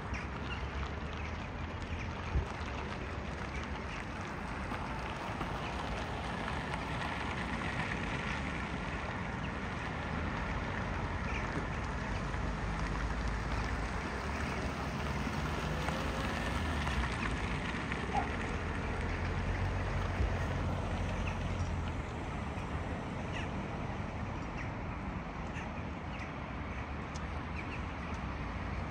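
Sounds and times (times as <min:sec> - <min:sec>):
outdoor background rumble and hiss: 0:00.0 - 0:28.9.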